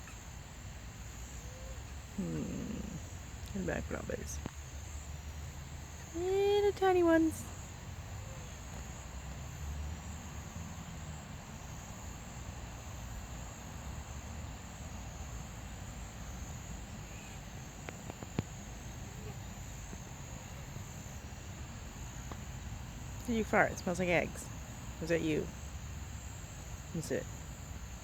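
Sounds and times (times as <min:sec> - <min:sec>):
high-pitched insect drone: 0:01.0 - 0:28.0.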